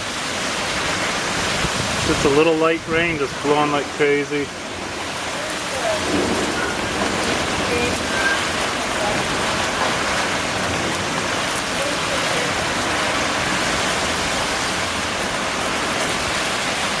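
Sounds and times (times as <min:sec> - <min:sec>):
light rain: 0:00.0 - 0:17.0
strong storm wind: 0:00.0 - 0:17.0.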